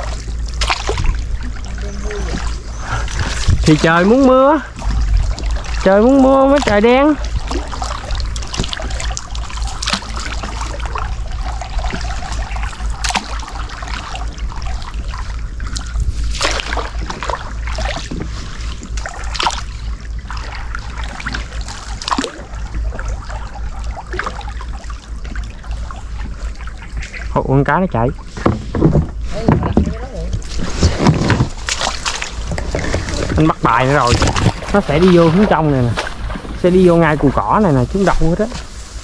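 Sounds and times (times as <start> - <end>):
steady low rumble: 0.0 - 39.0
water trickling and splashing: 0.0 - 39.0.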